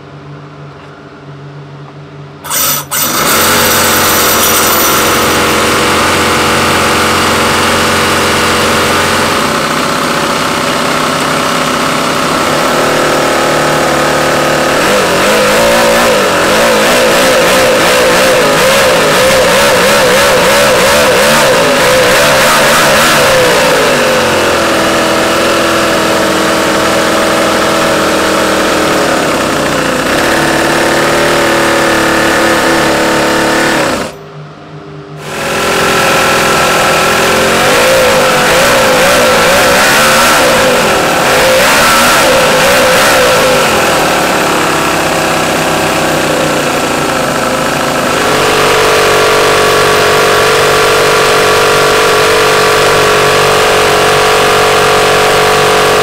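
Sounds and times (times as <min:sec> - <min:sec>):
model engine starting and running: 0:02.4 - 0:34.2, 0:35.2 - 0:56.0.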